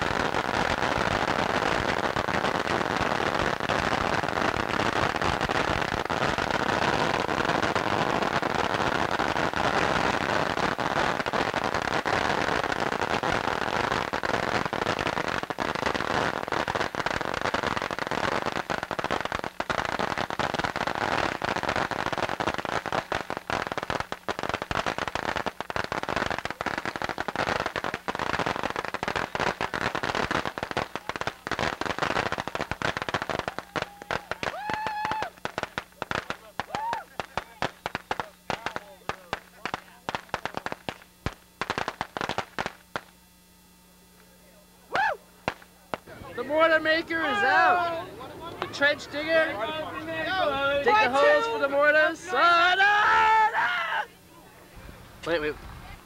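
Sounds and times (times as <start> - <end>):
firecrackers crackling: 0.0 - 56.0.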